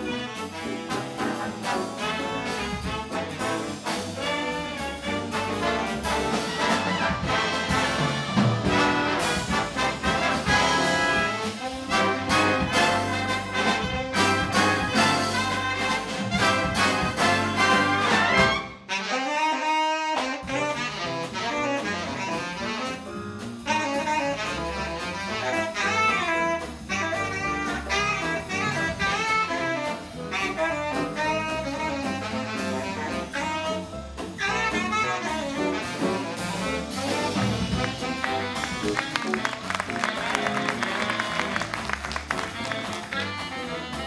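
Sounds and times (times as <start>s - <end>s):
big band playing swing: 0.0s - 44.0s.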